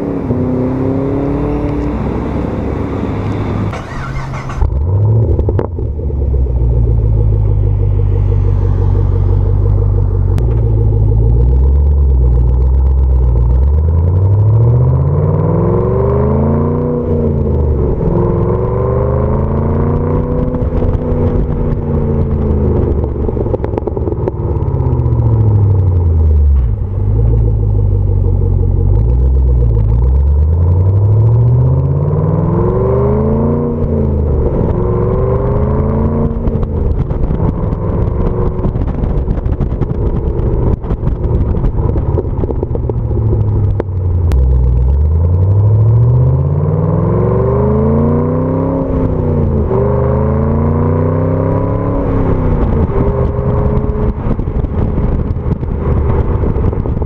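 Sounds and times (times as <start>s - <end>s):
car exhaust while driving: 0.0s - 57.0s.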